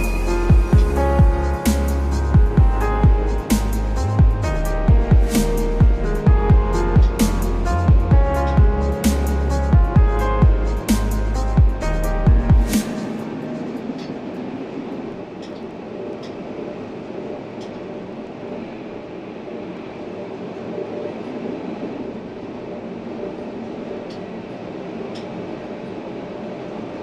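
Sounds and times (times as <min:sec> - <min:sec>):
tram rolling rumble: 0:00.0 - 0:27.0.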